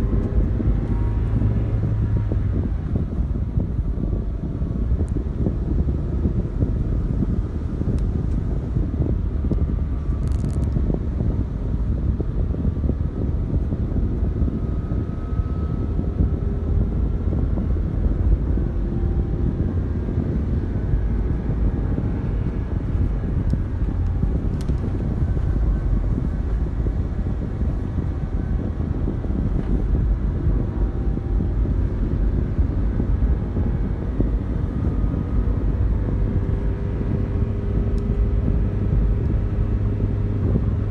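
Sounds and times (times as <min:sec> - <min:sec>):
vehicle engine: 0:00.0 - 0:40.9
wind buffeting microphone: 0:00.0 - 0:40.9.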